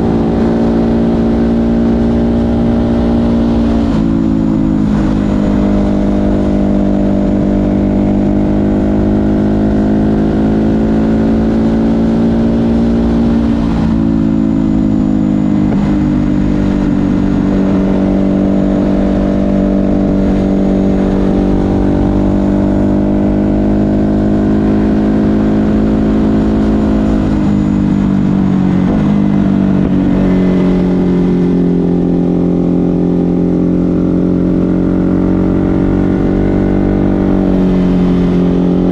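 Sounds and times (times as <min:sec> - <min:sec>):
motorcycle engine under throttle: 0:00.0 - 0:38.9.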